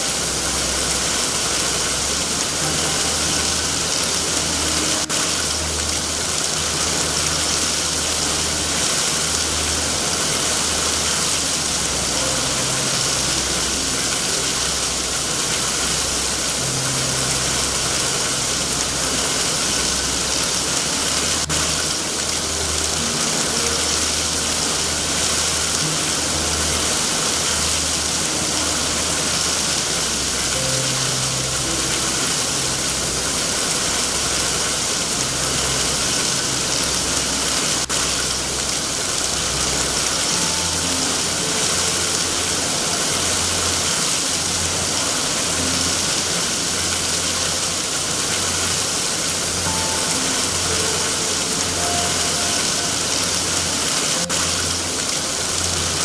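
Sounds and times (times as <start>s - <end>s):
ambient music drone: 0.0s - 56.0s
heavy rain hiss: 0.0s - 56.0s.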